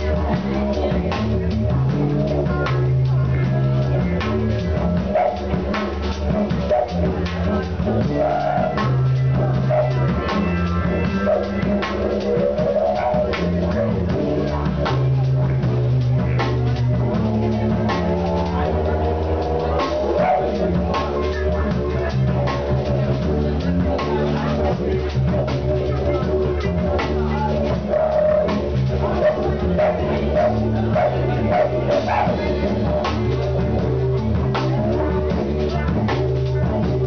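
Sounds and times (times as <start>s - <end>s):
bass line: 0.0s - 37.0s
didgeridoo droning: 0.0s - 37.0s
drum kit: 0.0s - 37.0s.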